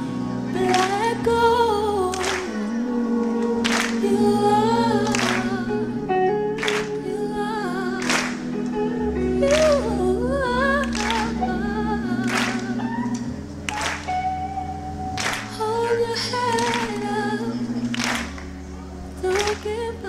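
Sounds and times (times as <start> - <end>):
voices singing: 0.0 - 14.0, 15.2 - 20.0
held bass notes: 0.0 - 20.0.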